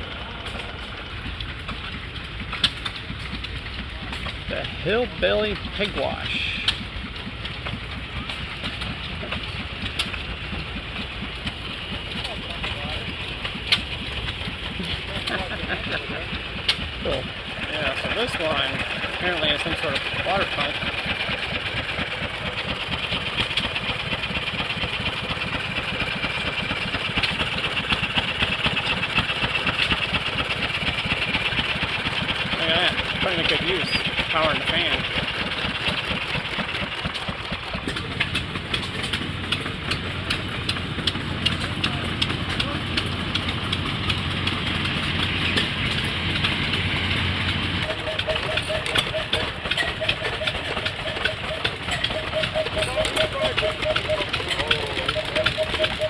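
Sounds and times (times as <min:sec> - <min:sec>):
stationary gas engines running: 0:00.0 - 0:56.0.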